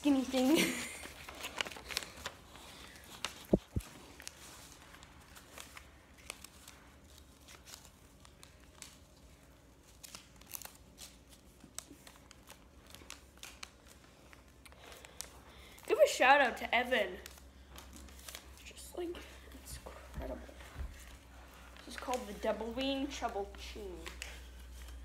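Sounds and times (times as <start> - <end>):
paper crinkling and rustling: 0.0 - 25.0.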